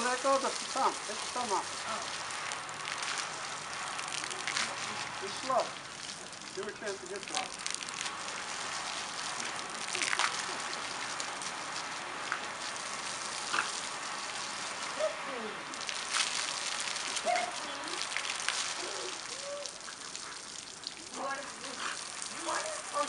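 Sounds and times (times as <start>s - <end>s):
garden hose spraying concrete: 0.0s - 23.0s
splashing: 0.0s - 23.0s.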